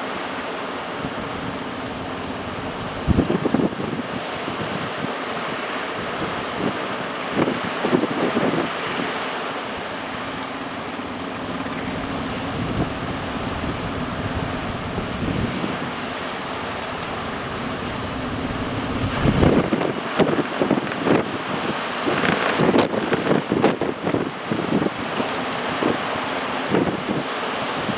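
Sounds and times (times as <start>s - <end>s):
boat engine humming: 0.0s - 27.9s
surf breaking: 0.0s - 27.9s
wind buffeting microphone: 0.8s - 27.9s.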